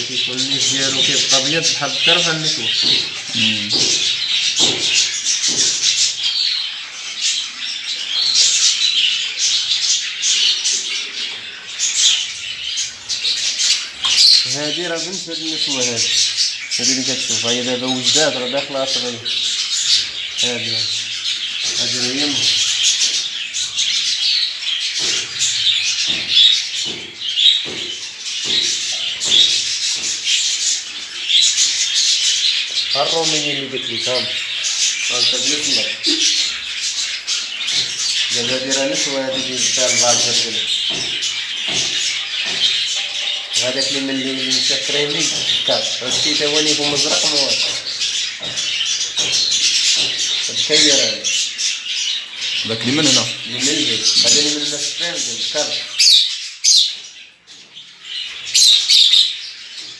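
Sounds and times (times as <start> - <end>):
cage birds chirping: 0.0 - 59.9.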